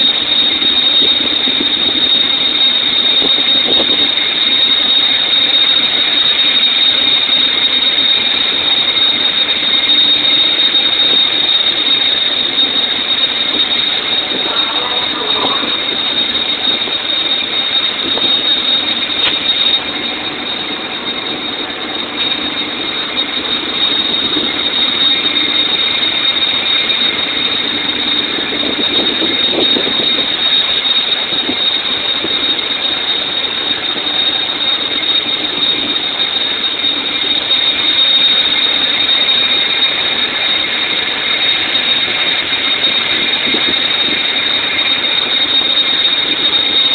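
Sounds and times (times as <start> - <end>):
constant high whine: 0.0 - 46.9
machinery running: 0.0 - 46.9.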